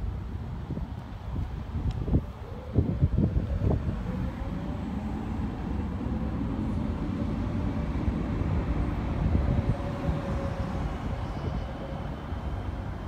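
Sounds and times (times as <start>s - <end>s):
tram rumbling on track: 0.0s - 13.0s.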